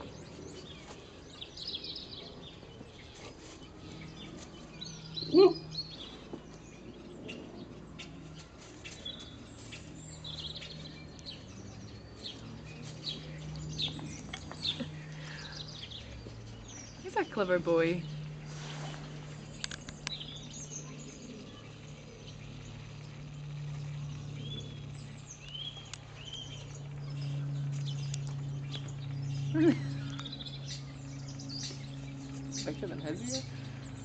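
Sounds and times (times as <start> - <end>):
birds chirping: 0.0 - 34.0
low steady hum: 0.0 - 34.0.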